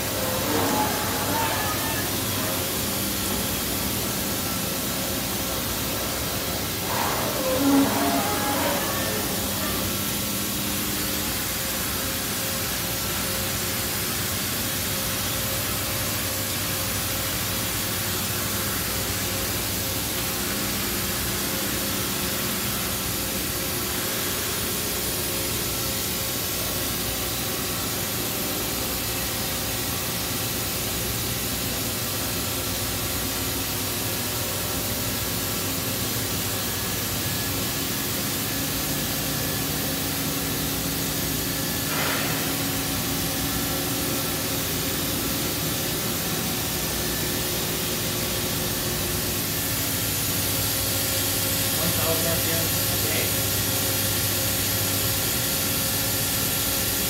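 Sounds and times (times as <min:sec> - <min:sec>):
machining center running: 0:00.0 - 0:57.0.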